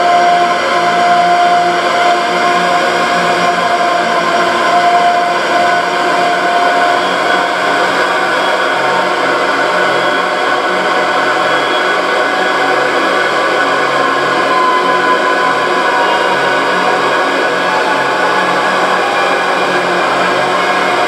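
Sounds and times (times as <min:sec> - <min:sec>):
drone music: 0:00.0 - 0:21.0.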